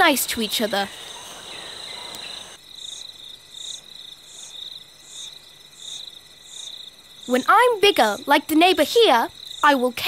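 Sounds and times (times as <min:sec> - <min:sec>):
high insect chirp: 0:00.0 - 0:10.0
insects trilling: 0:00.0 - 0:10.0.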